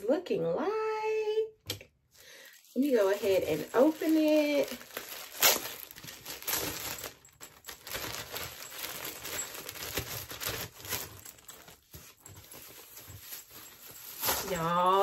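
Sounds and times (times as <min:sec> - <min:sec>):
plastic packaging crinkling: 0:02.2 - 0:15.0
plastic mailer bag ripping: 0:02.5 - 0:15.0.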